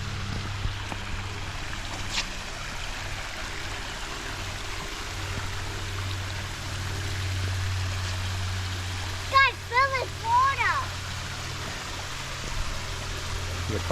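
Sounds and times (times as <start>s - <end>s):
flowing water rushing: 0.0s - 13.9s
low steady hum: 0.0s - 13.9s.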